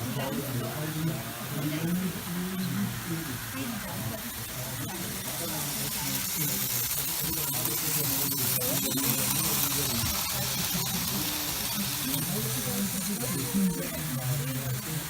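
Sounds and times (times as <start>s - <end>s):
crowd chatter: 0.0s - 15.0s
steady hiss: 0.0s - 15.0s.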